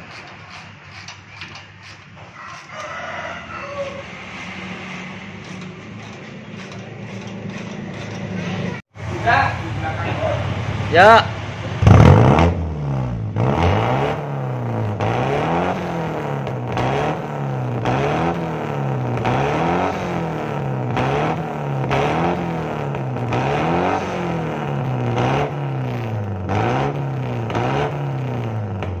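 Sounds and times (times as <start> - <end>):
car engine revving: 4.0 - 29.0.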